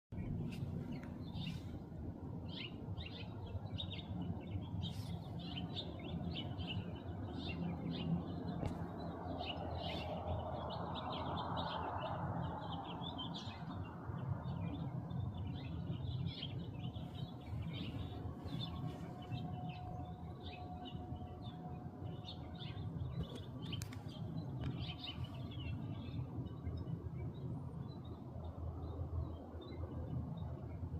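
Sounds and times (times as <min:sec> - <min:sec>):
low outdoor rumble: 0:00.1 - 0:30.9
small birds chirping: 0:00.2 - 0:01.8, 0:02.4 - 0:28.2.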